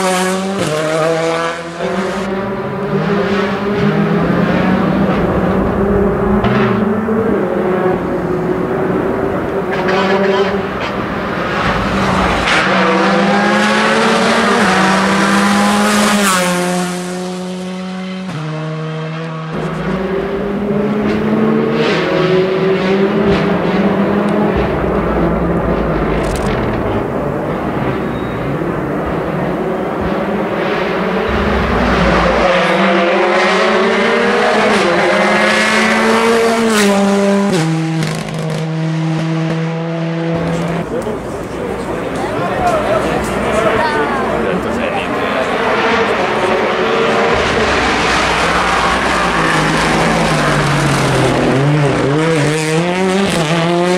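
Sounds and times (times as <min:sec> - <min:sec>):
car engine accelerating hard: 0:00.0 - 0:53.9.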